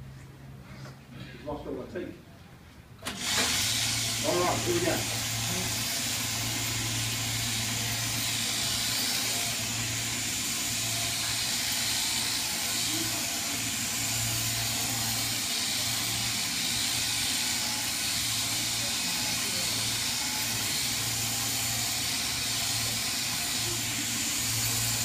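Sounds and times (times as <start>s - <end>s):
electric sheep shears humming: 3.0s - 25.0s.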